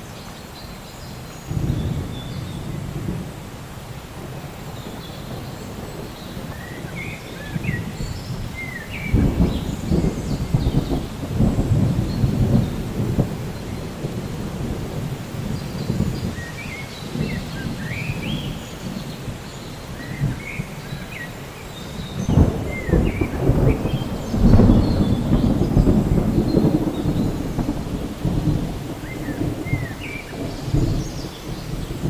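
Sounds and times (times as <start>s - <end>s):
rain falling: 0.0s - 32.0s
thunder rumbling: 1.4s - 32.0s.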